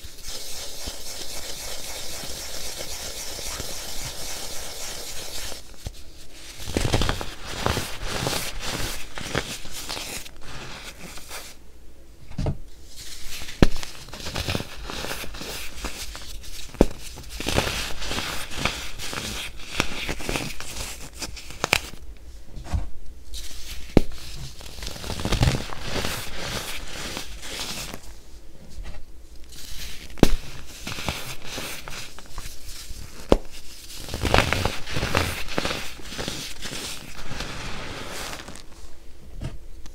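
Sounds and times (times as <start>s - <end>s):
baking soda crunching and crackling: 0.0s - 11.6s, 13.0s - 22.0s, 23.5s - 28.2s, 29.4s - 38.8s.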